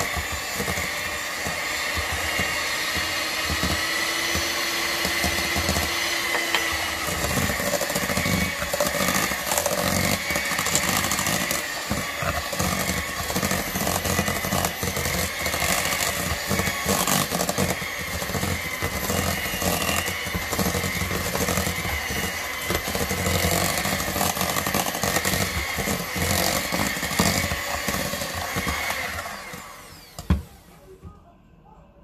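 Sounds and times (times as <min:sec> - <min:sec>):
electric hand mixer running: 0:00.0 - 0:30.7.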